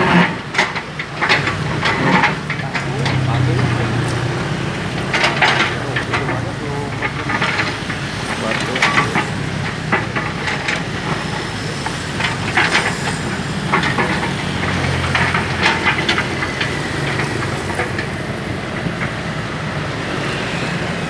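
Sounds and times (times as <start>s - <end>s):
excavator clanks and knocks: 0.0s - 21.0s
excavator diesel engine running: 0.0s - 21.0s.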